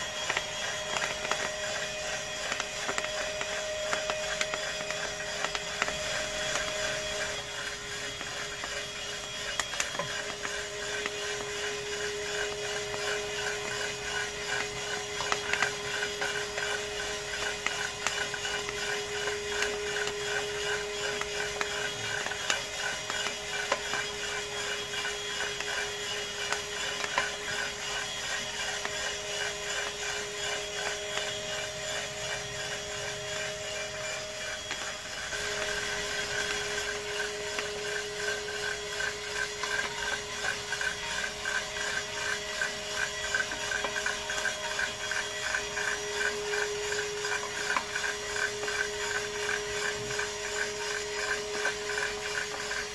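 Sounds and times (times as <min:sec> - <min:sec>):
coffee beans rattling in drum: 0:00.0 - 0:52.9
motor hum: 0:00.0 - 0:52.9.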